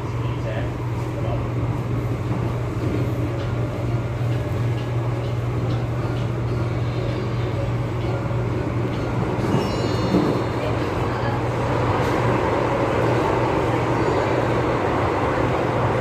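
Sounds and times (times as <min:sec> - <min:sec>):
train running noise with hum: 0:00.0 - 0:16.0.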